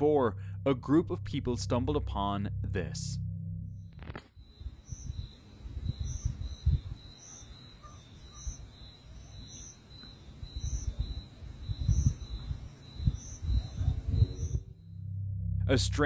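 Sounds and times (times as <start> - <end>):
irregular low rumble: 0.0 - 7.5, 10.2 - 16.0.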